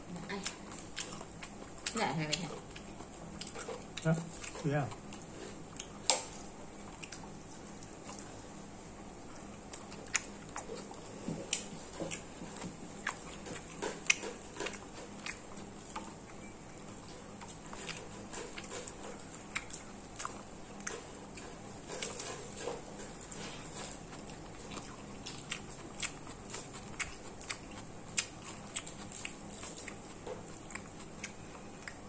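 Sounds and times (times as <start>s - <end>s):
person chewing and biting: 0.4s - 2.0s, 2.6s - 32.0s.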